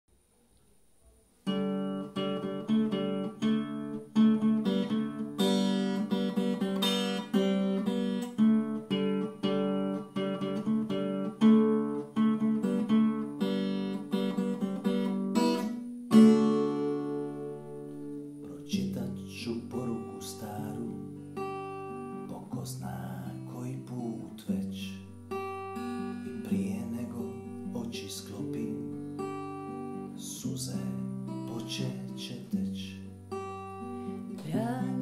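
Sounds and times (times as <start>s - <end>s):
acoustic guitar picked notes: 0.4s - 35.0s
strummed guitar chord: 1.5s - 35.0s.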